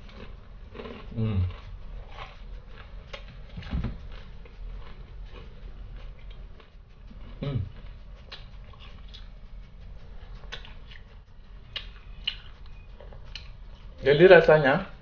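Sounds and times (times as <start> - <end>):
chewing and lip smacking: 0.0 - 14.0.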